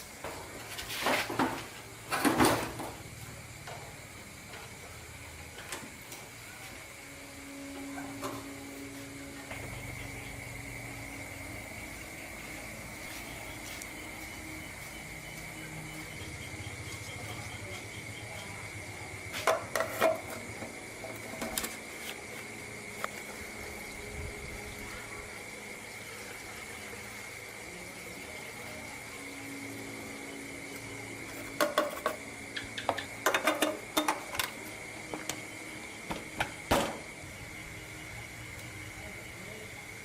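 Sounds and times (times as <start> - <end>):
steady high-pitched whine: 0.0 - 40.0.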